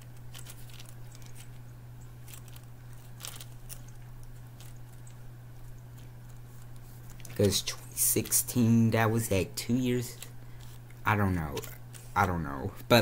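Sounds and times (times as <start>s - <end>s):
handling and mouth noises: 0.0s - 12.9s
steady low hum: 0.0s - 13.0s.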